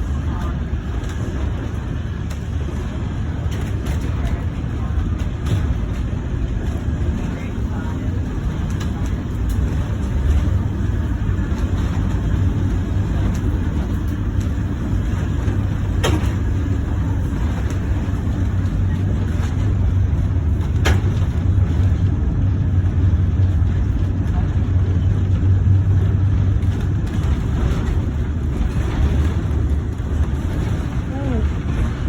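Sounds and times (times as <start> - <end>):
streetcar rumbling on track: 0.0 - 32.0.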